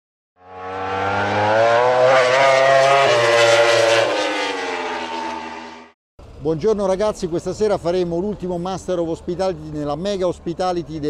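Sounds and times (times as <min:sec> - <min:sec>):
engine-like drone: 0:00.4 - 0:11.0.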